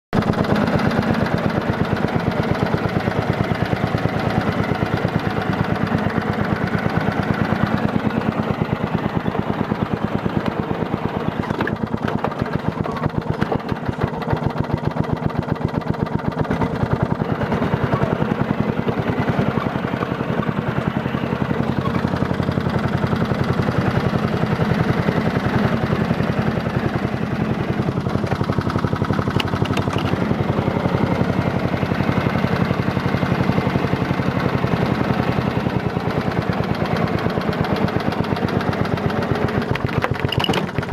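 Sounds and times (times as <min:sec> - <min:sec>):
lawn tractor engine running: 0:00.1 - 0:40.9.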